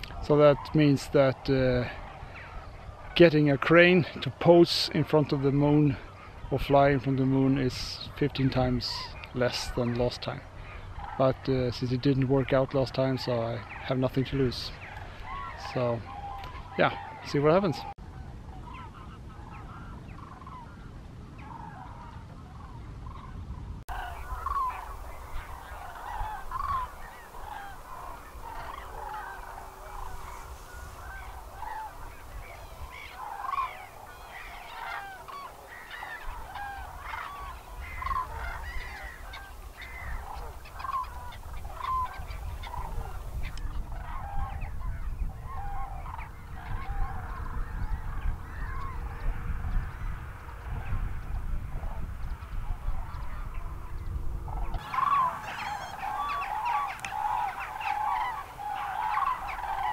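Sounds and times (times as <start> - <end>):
cranes and geese calling: 0.0 - 59.9.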